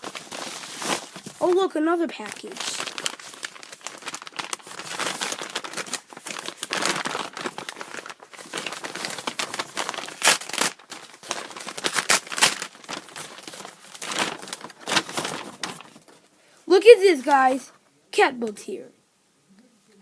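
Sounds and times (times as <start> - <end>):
packaging crackling and tearing: 0.0 - 16.2.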